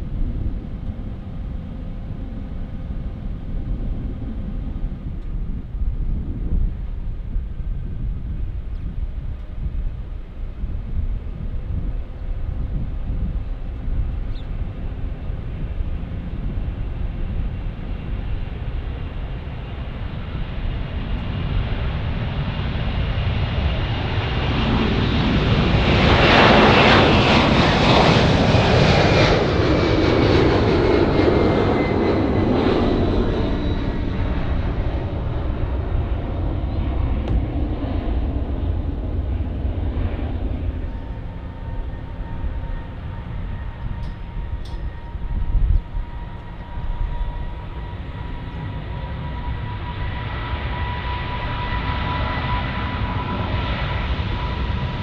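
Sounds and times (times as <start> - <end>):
jet airliner passing: 0.0 - 55.0
jet engine whine: 0.0 - 55.0.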